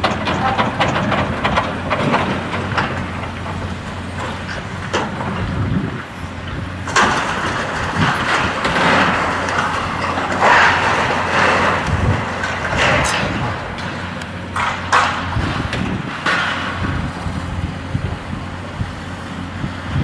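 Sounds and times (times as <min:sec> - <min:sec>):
debris crashing and scraping: 0:00.0 - 0:05.9, 0:06.8 - 0:17.1
metal and rubble clanking: 0:00.0 - 0:05.9, 0:06.5 - 0:17.2
excavator diesel engine: 0:00.0 - 0:20.0.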